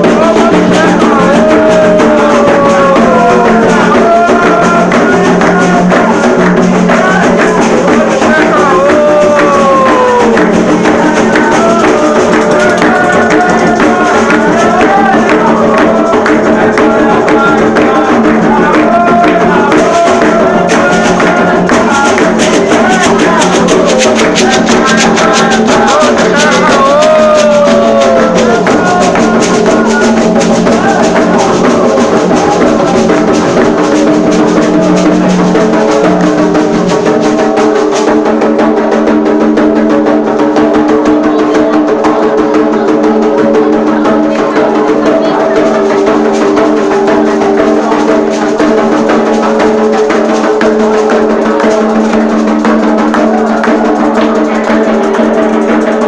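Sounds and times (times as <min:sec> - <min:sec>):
hand drums and rattles: 0:00.0 - 0:56.0
voices singing: 0:00.0 - 0:56.0.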